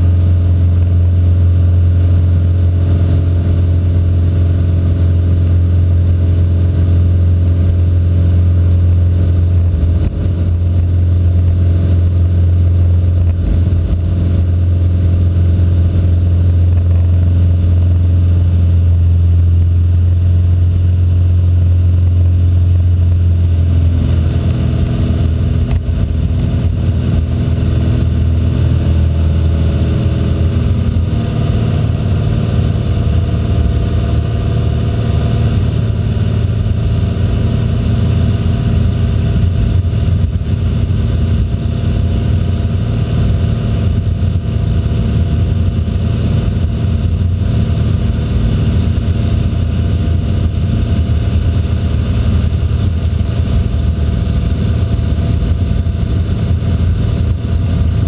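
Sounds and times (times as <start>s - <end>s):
propeller plane engine in flight: 0.0s - 58.0s.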